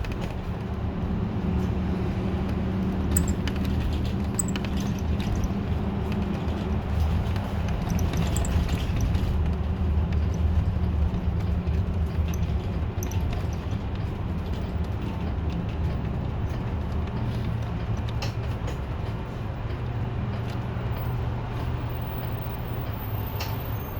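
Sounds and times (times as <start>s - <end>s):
bus engine droning: 0.0s - 23.9s
road noise: 0.0s - 23.9s.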